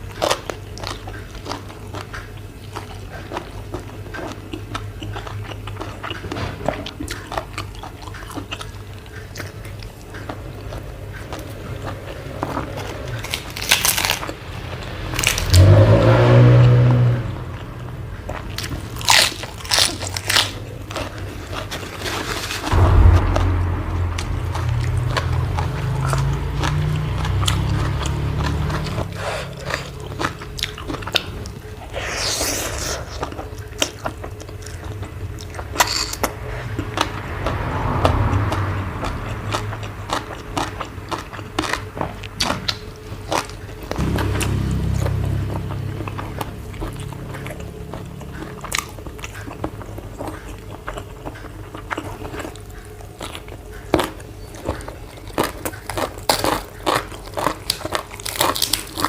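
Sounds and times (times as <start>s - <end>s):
person chewing crunchy food: 0.0s - 23.4s, 24.5s - 59.0s.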